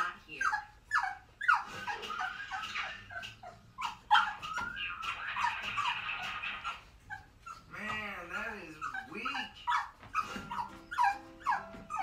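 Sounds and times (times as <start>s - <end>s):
puppy whining and yelping: 0.0s - 12.0s.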